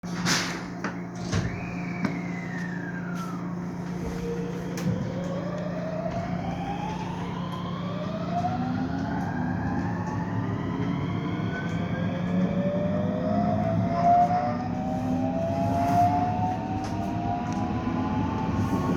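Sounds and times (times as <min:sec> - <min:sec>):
electric train motors whining: 0:01.2 - 0:18.9.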